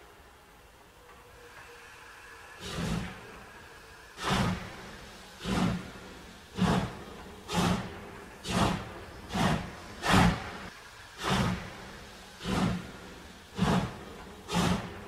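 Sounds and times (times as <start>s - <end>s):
steam locomotive chuffing: 0.9s - 15.0s.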